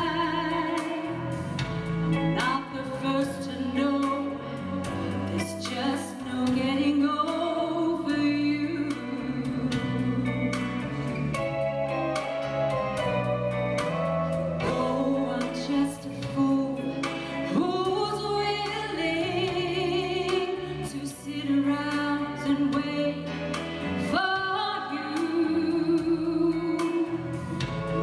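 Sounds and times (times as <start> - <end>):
band accompaniment: 0.0 - 28.0.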